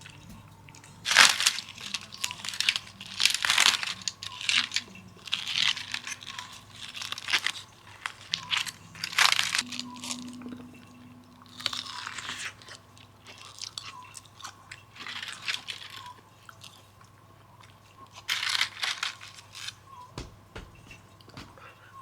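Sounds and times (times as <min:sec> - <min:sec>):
crunchy food being chewed: 0:00.0 - 0:10.6, 0:11.4 - 0:22.0.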